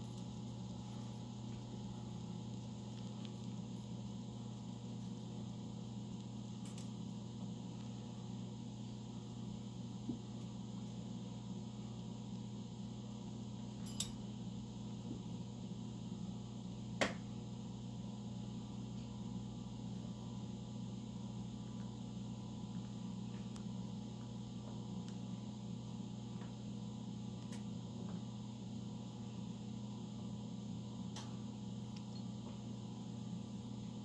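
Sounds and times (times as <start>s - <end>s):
low room hum: 0.0s - 34.0s.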